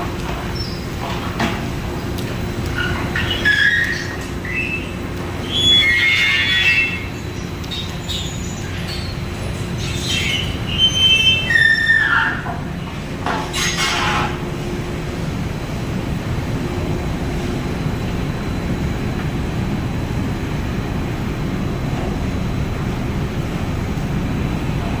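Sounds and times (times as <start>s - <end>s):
industrial dryer rumbling: 0.0s - 25.0s.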